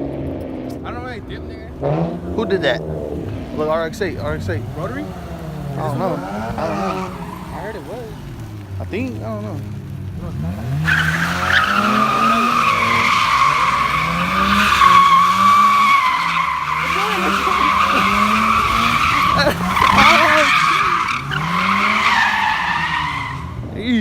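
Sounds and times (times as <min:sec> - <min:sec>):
engine revving: 0:00.0 - 0:24.0
tires screeching: 0:00.0 - 0:24.0.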